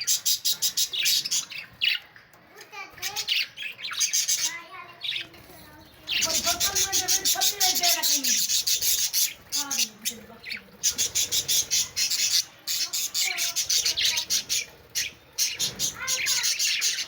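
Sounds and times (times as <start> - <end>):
lovebirds chirping and squawking: 0.0 - 17.0.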